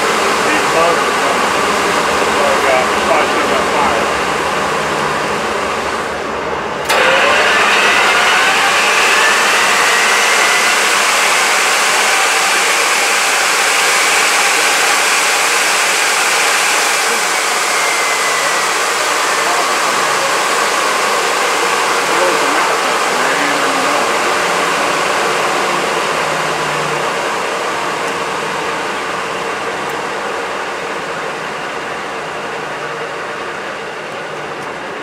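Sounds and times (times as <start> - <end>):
faint engine whine: 0.0 - 35.0
turbojet engine roaring: 0.0 - 35.0.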